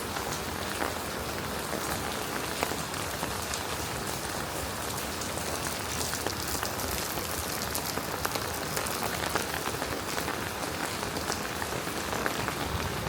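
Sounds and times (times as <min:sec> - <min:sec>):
steady rainfall: 0:00.0 - 0:13.0
raindrops ticking: 0:00.1 - 0:13.0.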